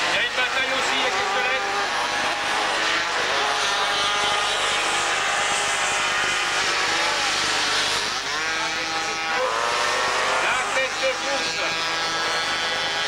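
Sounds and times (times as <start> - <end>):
mopeds racing past: 0.0 - 13.0.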